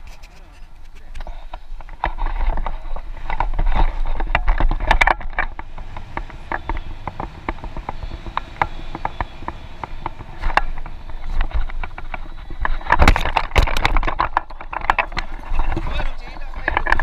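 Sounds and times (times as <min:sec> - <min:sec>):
sharp clicks and rattles: 0:00.0 - 0:17.0.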